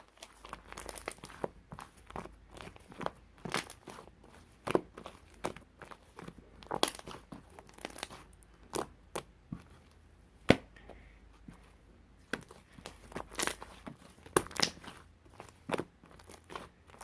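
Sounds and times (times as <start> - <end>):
crinkling of handled object: 0.0 - 10.0, 12.3 - 17.0.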